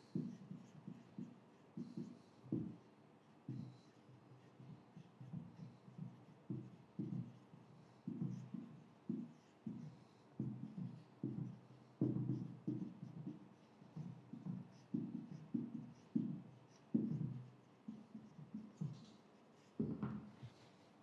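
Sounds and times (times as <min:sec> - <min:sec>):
marker pen writing on a whiteboard: 0:00.0 - 0:21.0.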